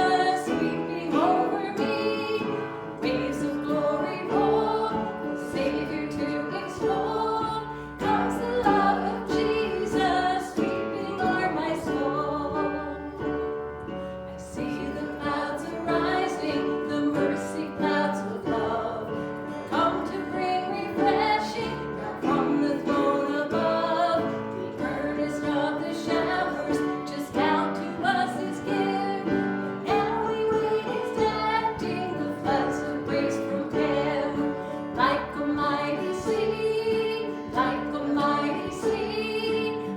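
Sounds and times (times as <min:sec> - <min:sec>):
woman singing: 0:00.0 - 0:13.6, 0:14.3 - 0:39.9
guitar and instruments accompanying: 0:00.0 - 0:39.9.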